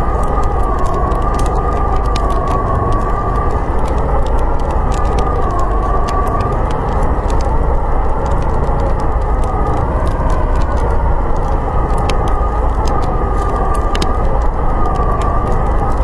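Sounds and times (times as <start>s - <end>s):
wind howling: 0.0s - 16.0s
wood fire crackling: 0.0s - 16.0s.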